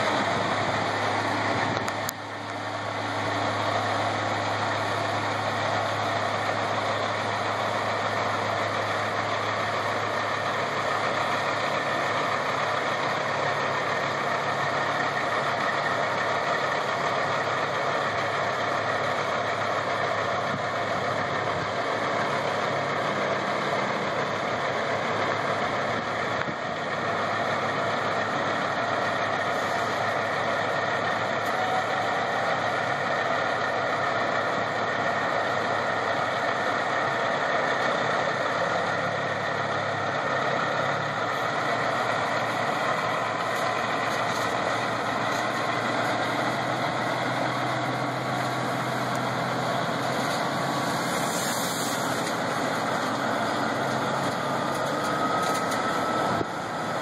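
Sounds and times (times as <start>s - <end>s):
truck engines idling: 0.0s - 57.0s.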